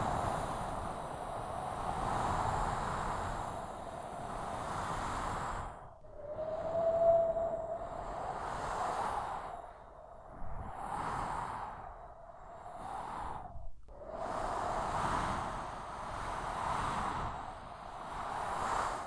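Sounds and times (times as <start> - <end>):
strong gusting wind: 0.0 - 19.0.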